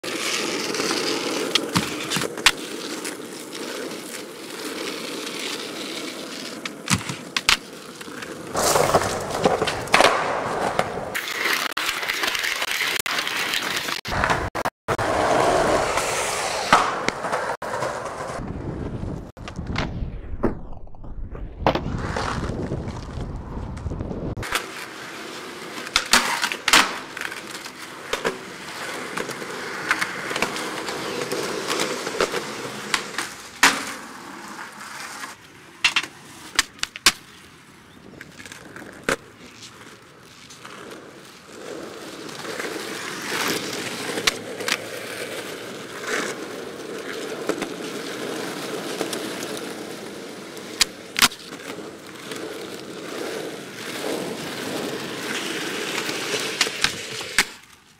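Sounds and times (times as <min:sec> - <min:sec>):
skateboard clacks: 0:00.0 - 0:18.4, 0:24.4 - 0:37.3, 0:38.2 - 0:57.8
skateboard wheels rolling on asphalt: 0:00.0 - 0:57.9.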